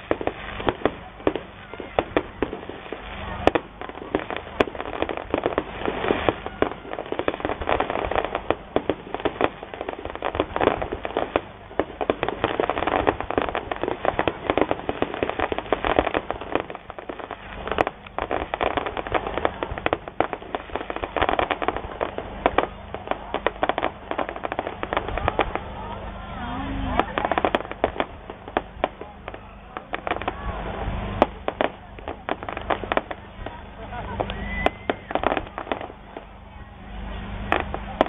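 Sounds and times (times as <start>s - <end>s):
fireworks pops and crackles: 0.0s - 38.0s.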